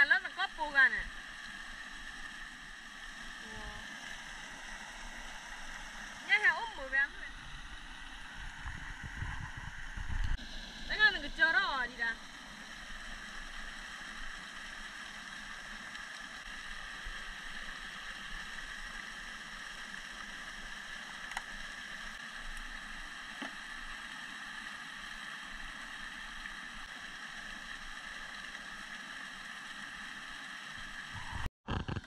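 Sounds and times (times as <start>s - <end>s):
flowing water: 0.0s - 32.0s.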